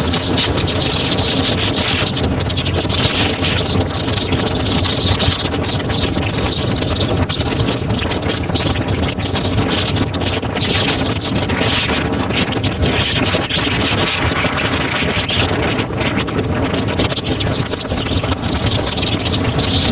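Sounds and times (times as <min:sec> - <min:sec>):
motorcycle engine running: 0:00.0 - 0:19.9
road and wind noise: 0:00.0 - 0:19.9.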